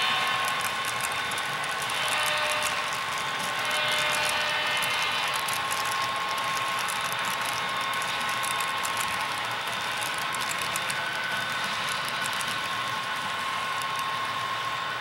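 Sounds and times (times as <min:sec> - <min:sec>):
model train whirring hum: 0:00.0 - 0:15.0
wheels clicking on track: 0:00.0 - 0:15.0.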